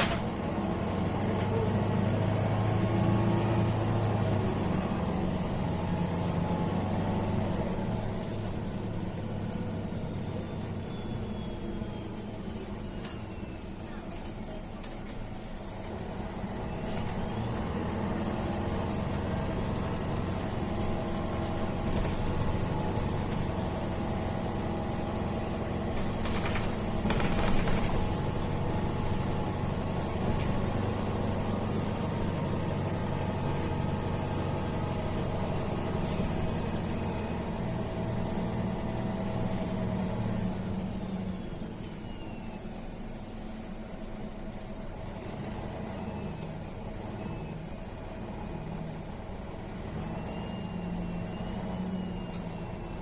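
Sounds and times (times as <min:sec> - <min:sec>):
bus engine running: 0:00.0 - 0:53.0.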